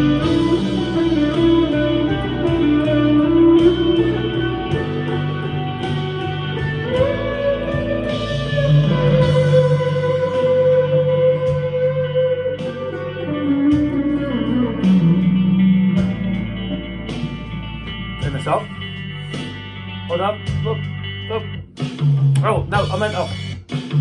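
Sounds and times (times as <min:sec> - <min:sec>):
electric guitar lead line: 0:00.0 - 0:24.0.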